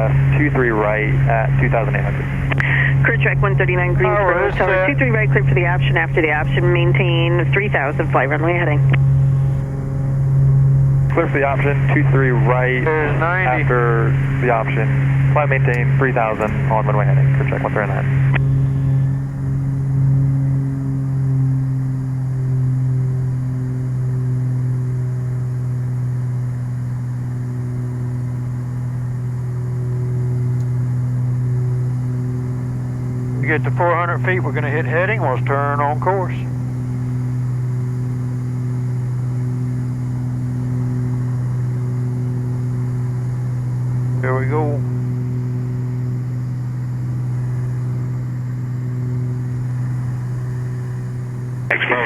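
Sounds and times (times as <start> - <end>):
propeller engines droning: 0.0 - 52.0.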